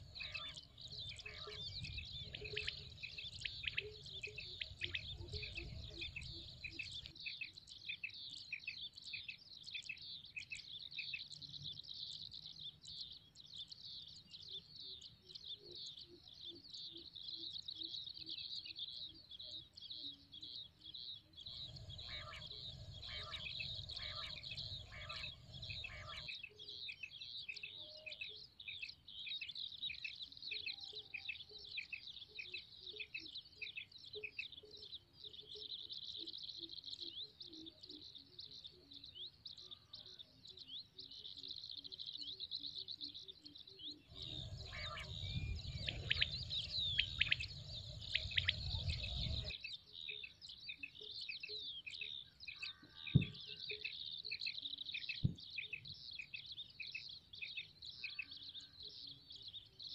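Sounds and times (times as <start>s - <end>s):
birds chirping rapidly: 0.0s - 20.5s, 21.4s - 59.7s.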